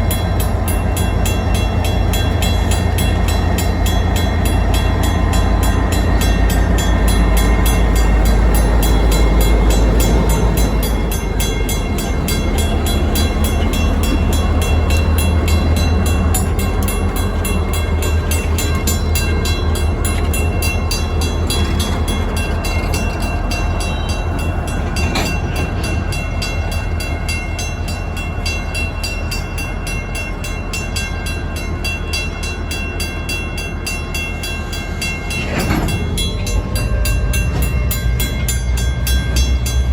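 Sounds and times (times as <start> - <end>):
crossing bell ringing: 0.0 - 39.9
diesel locomotives rumbling: 0.0 - 39.9.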